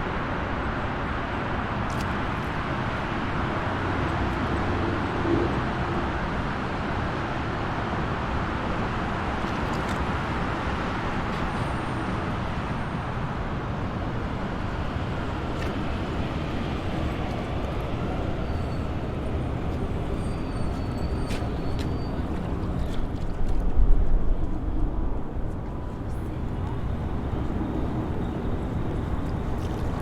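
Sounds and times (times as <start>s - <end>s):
highway traffic rushing: 0.0s - 30.0s.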